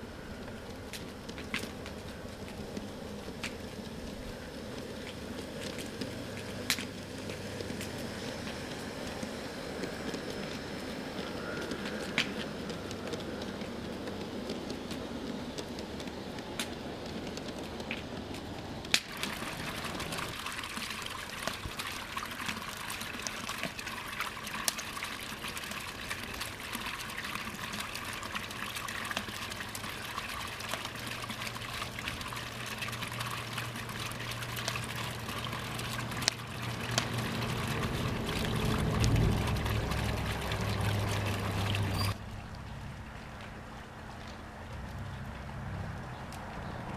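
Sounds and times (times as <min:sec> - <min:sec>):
fountain water trickling: 0:00.0 - 0:46.9
low steady hum: 0:00.0 - 0:46.9.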